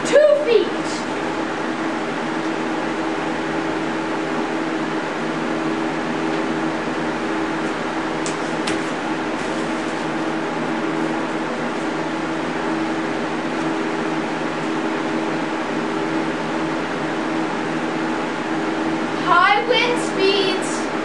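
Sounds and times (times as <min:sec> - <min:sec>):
electric fan running: 0:00.0 - 0:21.0.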